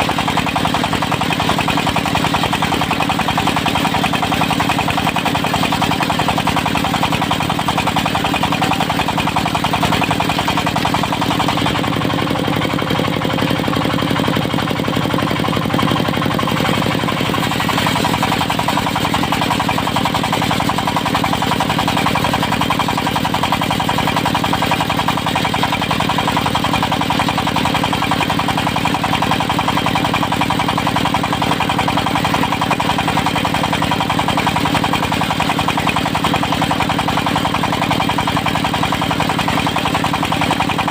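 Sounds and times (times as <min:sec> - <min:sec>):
sawmill engine knocking: 0:00.0 - 0:40.9.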